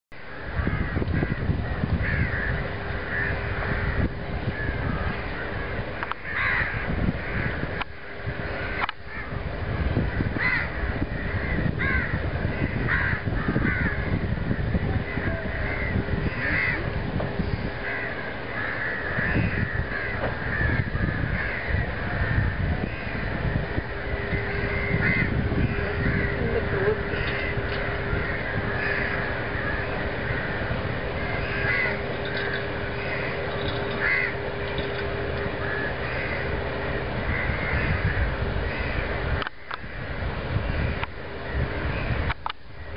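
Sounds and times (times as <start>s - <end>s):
birds calling: 0.2s - 42.9s
low drone: 0.2s - 42.9s
crows cawing: 0.3s - 9.4s, 10.0s - 42.1s
low rumble: 6.7s - 42.9s.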